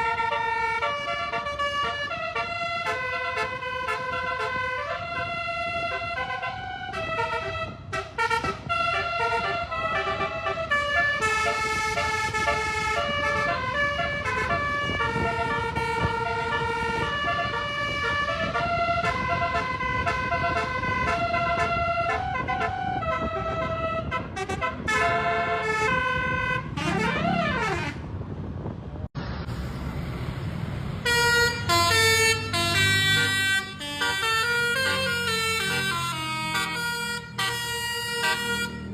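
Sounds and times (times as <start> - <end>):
bus musical horn melody: 0.0 - 28.0, 31.0 - 38.9.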